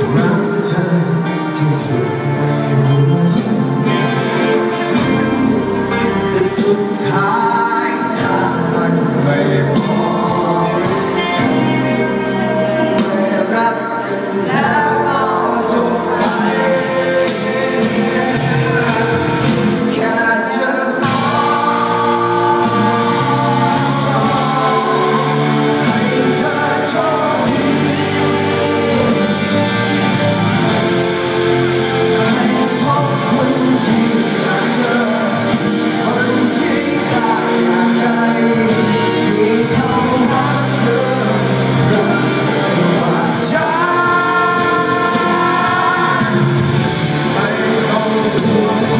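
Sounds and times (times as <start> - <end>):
lead singer singing: 0.0 - 48.9
live rock band playing: 0.0 - 48.9.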